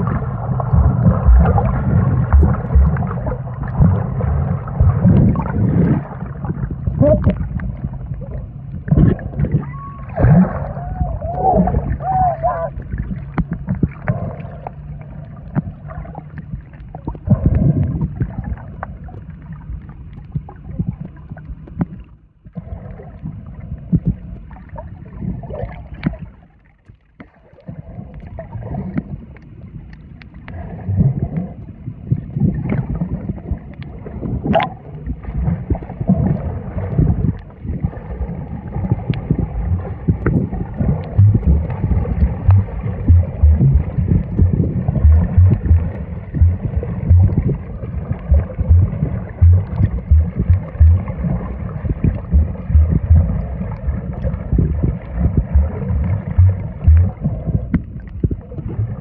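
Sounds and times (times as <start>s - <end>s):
muffled underwater rumble: 0.0s - 59.0s
underwater gurgles and clicks: 0.0s - 59.0s.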